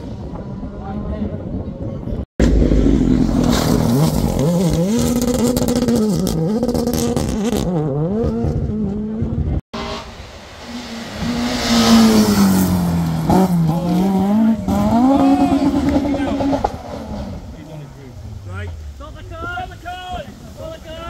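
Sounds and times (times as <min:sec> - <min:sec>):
rally car engine at full throttle: 0:00.0 - 0:19.1
second rally car engine: 0:00.1 - 0:19.2.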